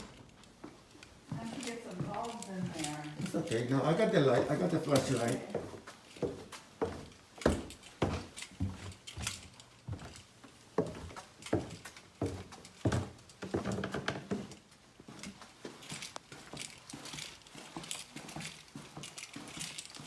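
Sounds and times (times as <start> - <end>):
footsteps on hard floor: 0.0 - 20.0.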